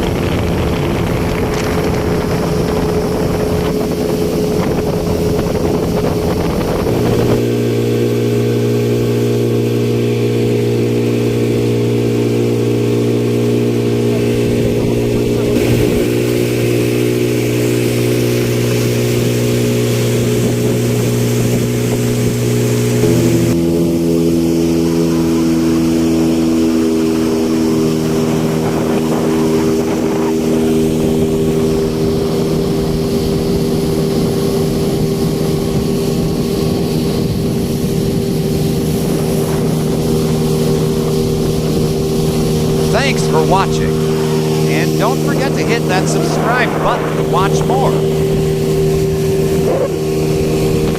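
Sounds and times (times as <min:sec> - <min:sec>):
outboard engine running: 0:00.0 - 0:50.9
water noise: 0:00.0 - 0:50.9.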